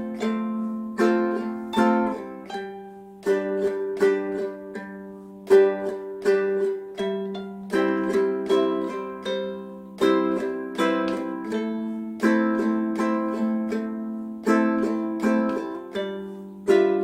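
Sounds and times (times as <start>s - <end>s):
ukulele strumming chords: 0.0s - 17.0s.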